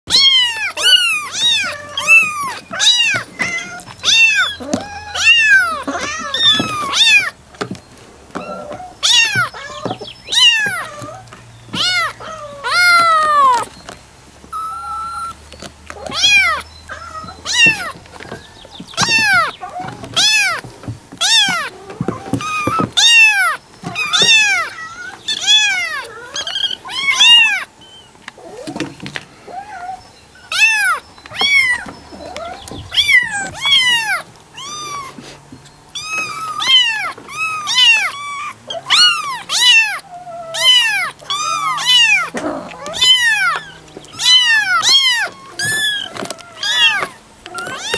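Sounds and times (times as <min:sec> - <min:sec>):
kitten meowing: 0:00.1 - 0:07.4, 0:08.4 - 0:11.2, 0:11.8 - 0:13.7, 0:14.5 - 0:15.4, 0:16.0 - 0:27.7, 0:29.5 - 0:35.2, 0:36.0 - 0:47.9.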